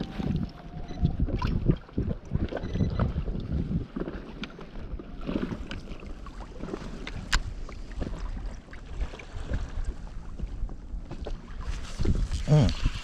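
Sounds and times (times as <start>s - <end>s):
wind on microphone: 0.0s - 4.2s, 4.8s - 13.0s
water around kayak: 0.0s - 13.0s.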